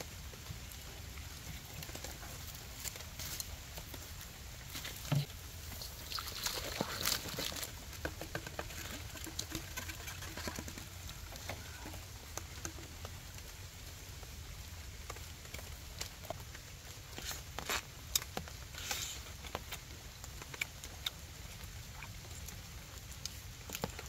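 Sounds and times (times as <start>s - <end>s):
faint steady hiss: 0.0s - 24.0s
rain pattering: 0.0s - 24.0s.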